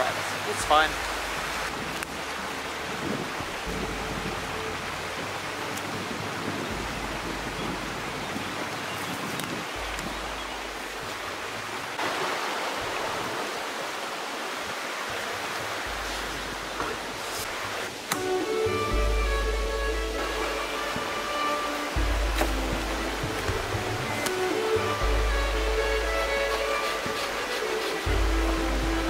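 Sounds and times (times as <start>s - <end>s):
river rushing over stones: 0.0s - 29.0s.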